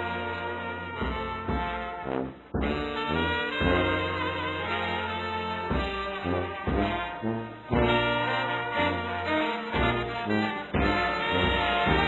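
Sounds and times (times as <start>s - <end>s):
brass background music: 0.0s - 12.0s.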